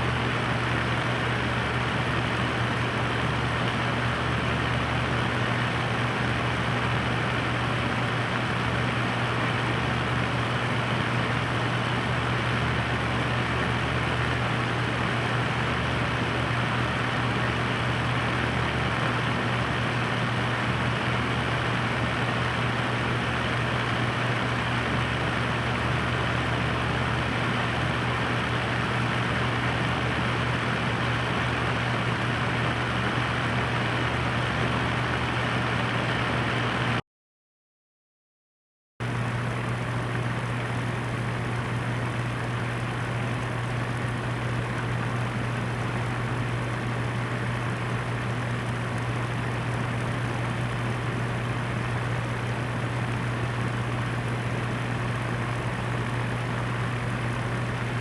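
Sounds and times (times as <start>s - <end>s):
electric fan running: 0.0s - 37.0s, 39.0s - 58.0s.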